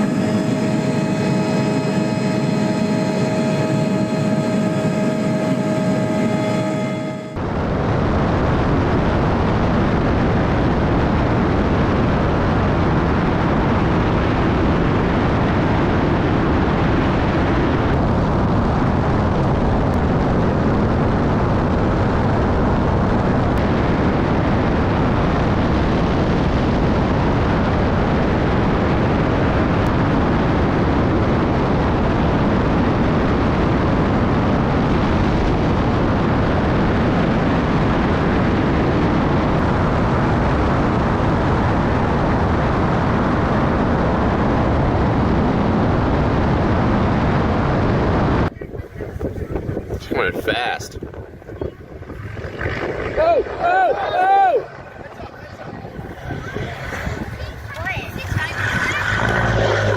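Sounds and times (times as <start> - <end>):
aircraft rushing noise: 0.0 - 59.9.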